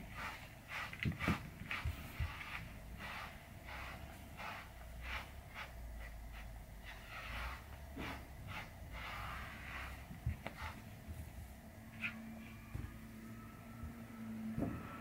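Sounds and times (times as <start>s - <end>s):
brush swishing through fur: 0.0s - 13.0s.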